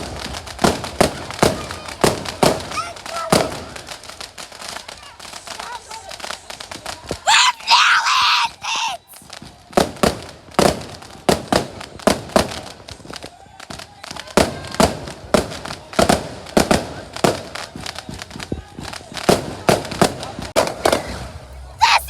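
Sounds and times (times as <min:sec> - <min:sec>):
fireworks banging: 0:00.0 - 0:07.2, 0:09.1 - 0:13.2, 0:14.4 - 0:22.0.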